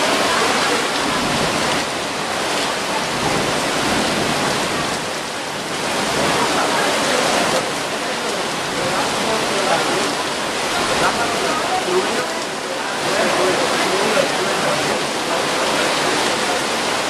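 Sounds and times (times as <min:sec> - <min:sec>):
heavy rain hissing and splashing: 0:00.0 - 0:17.0.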